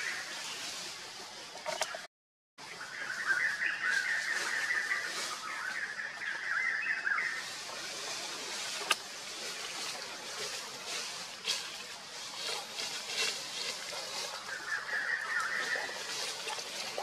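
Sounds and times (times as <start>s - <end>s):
steady outdoor hiss: 0.0s - 17.0s
birds chirping: 1.4s - 17.0s.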